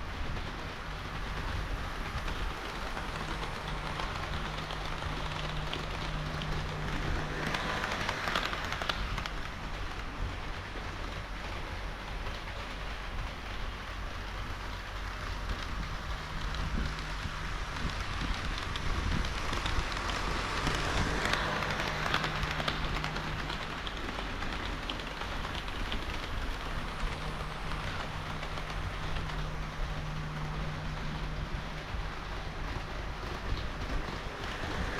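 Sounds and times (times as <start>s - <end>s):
model train wheels clattering on rail: 0.0s - 34.9s.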